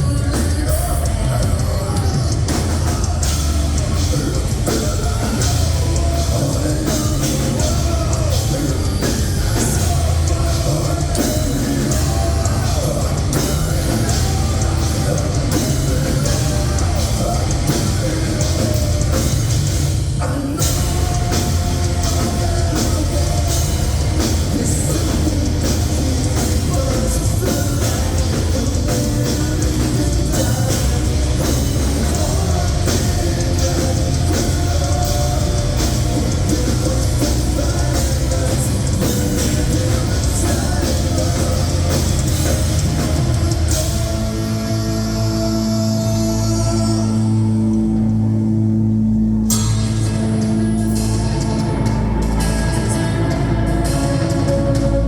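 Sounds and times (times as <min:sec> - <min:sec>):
bass guitar: 0:00.0 - 0:55.0
distorted guitars: 0:00.0 - 0:55.0
drum kit: 0:00.0 - 0:55.0.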